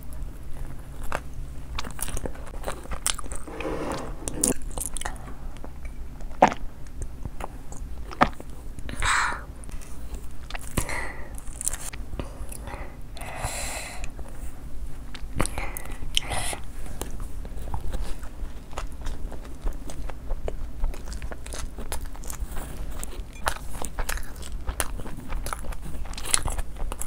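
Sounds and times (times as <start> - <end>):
person chewing food: 0.5 - 27.0.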